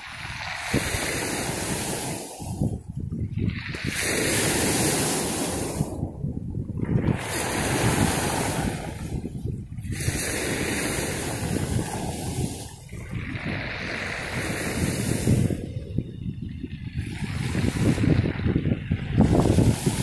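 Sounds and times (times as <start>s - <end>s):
waves washing up a pebble beach: 0.0s - 2.8s, 3.4s - 6.1s, 6.8s - 15.9s, 17.0s - 20.0s
wind rumbling on microphone: 0.0s - 20.0s.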